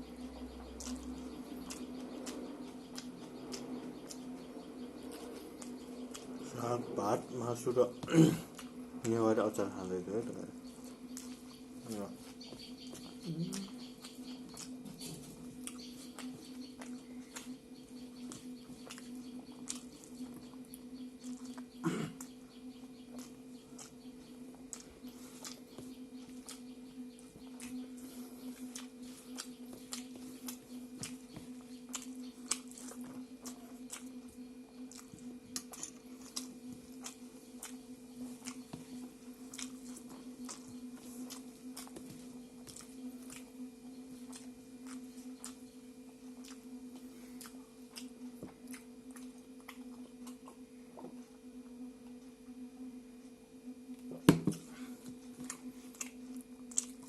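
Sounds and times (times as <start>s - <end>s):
steady low hum: 0.0s - 57.0s
person chewing food: 0.1s - 6.6s, 7.6s - 9.1s, 10.6s - 51.4s, 53.9s - 57.0s.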